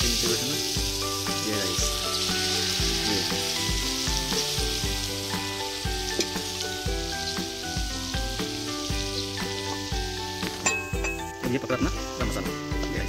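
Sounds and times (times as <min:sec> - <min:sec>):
background music with beat: 0:00.0 - 0:13.0
paste sizzling in hot oil: 0:00.0 - 0:13.0.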